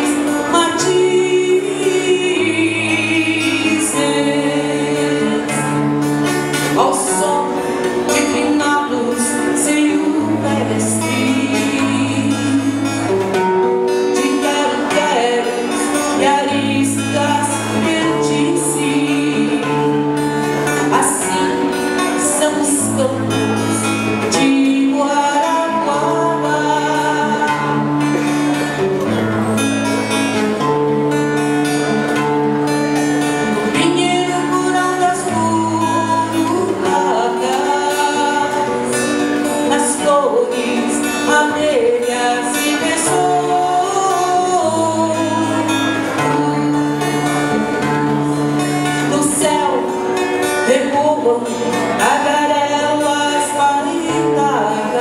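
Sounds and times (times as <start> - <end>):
woman singing: 0.0 - 28.8, 31.9 - 55.0
acoustic guitar: 0.0 - 55.0.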